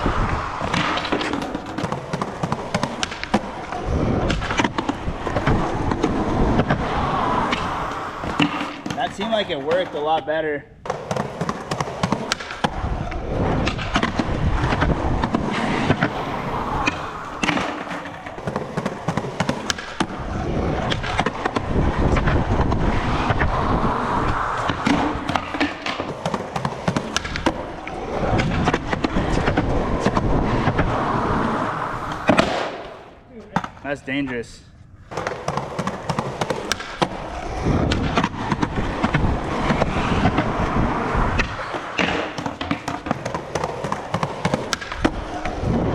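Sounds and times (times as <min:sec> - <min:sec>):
skateboard wheels rolling on pavement: 0:00.0 - 0:45.9
skateboard clacks and knocks: 0:00.2 - 0:10.1, 0:10.8 - 0:33.8, 0:35.1 - 0:45.9.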